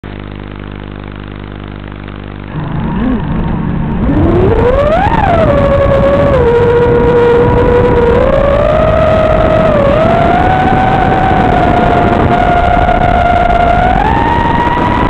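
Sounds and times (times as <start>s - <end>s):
quadcopter motors whining: 2.4s - 15.0s.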